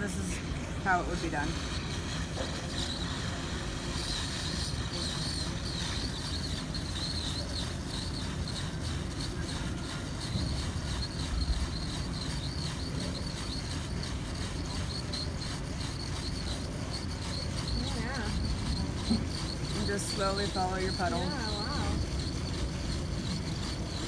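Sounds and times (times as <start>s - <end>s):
plastic welder hissing: 0.0s - 24.0s.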